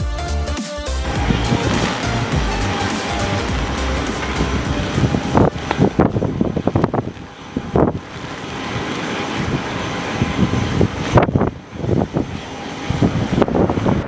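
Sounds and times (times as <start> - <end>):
wind buffeting microphone: 1.0 - 14.0
wind rushing: 1.0 - 14.0.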